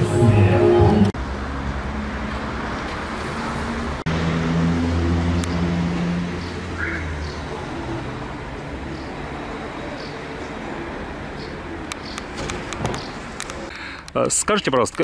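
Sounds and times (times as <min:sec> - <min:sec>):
car engine passing: 0:00.0 - 0:13.7
street traffic noise: 0:00.0 - 0:15.0.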